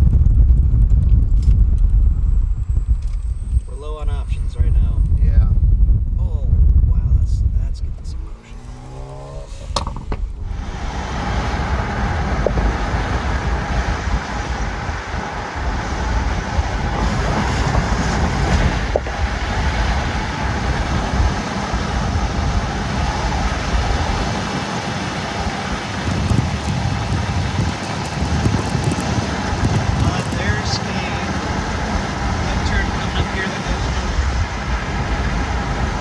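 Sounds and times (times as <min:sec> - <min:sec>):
deep low rumble: 0:00.0 - 0:36.0
road and wind noise: 0:00.0 - 0:36.0.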